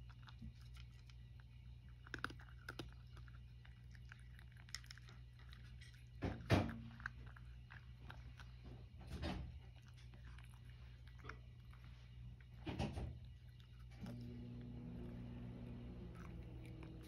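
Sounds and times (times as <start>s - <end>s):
cat crunching dry kibble: 0.0s - 17.0s
steady low hum: 0.0s - 17.0s.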